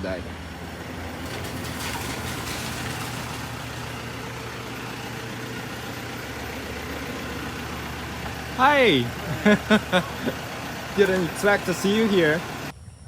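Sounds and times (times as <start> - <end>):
low mechanical hum with hiss: 0.0 - 13.0.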